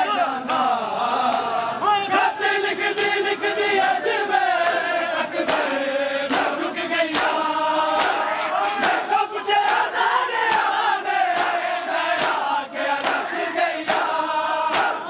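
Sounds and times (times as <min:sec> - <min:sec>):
men chanting together: 0:00.0 - 0:15.0.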